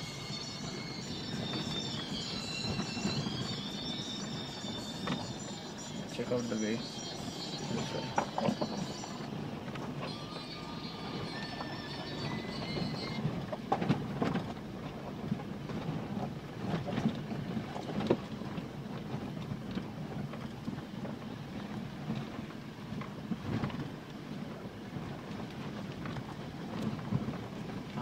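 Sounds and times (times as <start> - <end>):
low rumble of tyres: 0.0 - 28.0.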